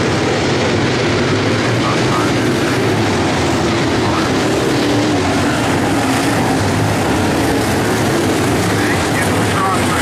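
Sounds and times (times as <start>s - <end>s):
race car engines roaring: 0.0s - 10.0s.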